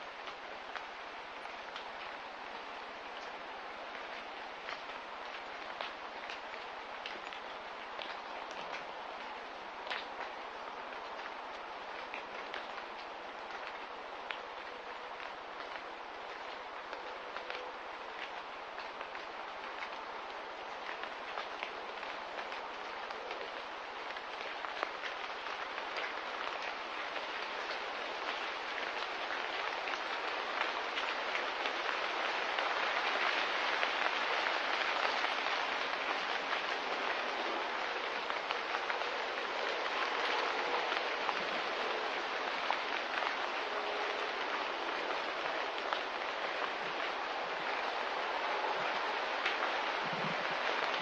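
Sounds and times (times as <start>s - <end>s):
rain-like hiss with crackles: 0.0s - 51.0s.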